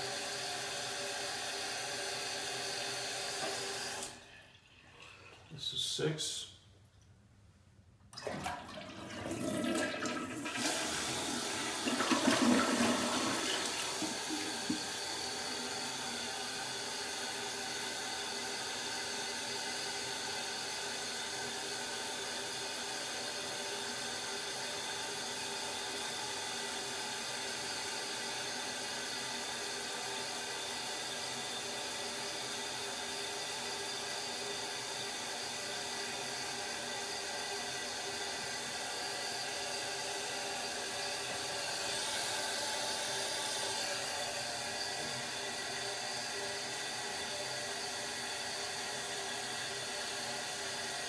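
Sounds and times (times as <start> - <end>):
toilet flushing: 0.0 - 5.7, 8.1 - 51.0.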